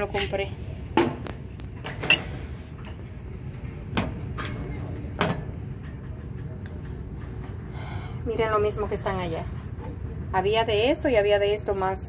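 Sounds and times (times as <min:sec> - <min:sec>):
low store hum: 0:00.0 - 0:12.0.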